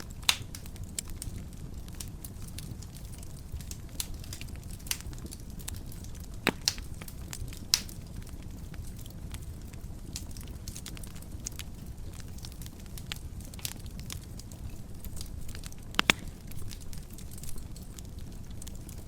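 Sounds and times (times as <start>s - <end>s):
wood fire crackling in a fireplace: 0.0s - 19.0s.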